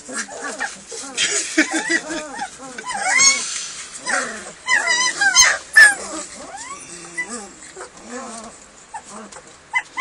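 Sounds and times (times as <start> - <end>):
puppies whining and yelping: 0.0 - 10.0.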